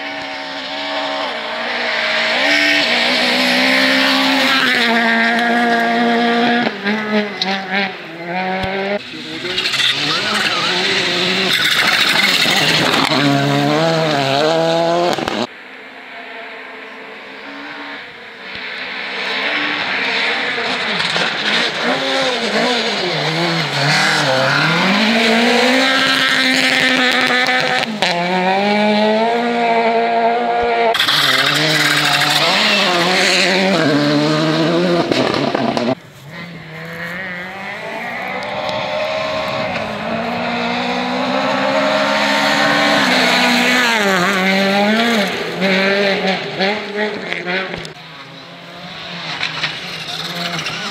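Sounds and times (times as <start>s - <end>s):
rally car engine revving: 0.0s - 15.5s, 16.3s - 50.9s.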